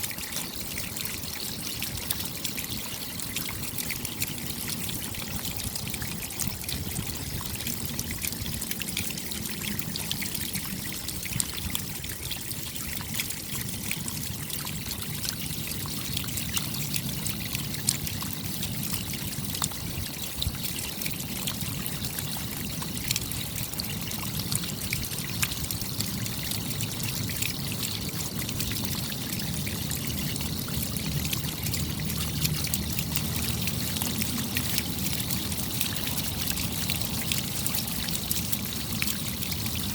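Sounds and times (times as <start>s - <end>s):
rain drops pattering: 0.0s - 39.9s
water running and trickling: 0.0s - 39.9s.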